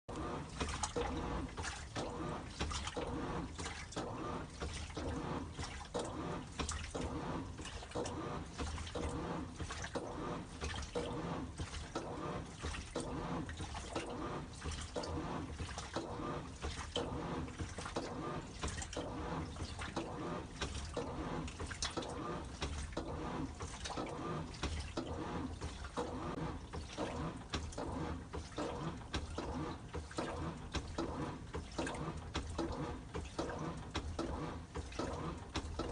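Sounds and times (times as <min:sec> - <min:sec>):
washing machine water sloshing: 0:00.0 - 0:35.9.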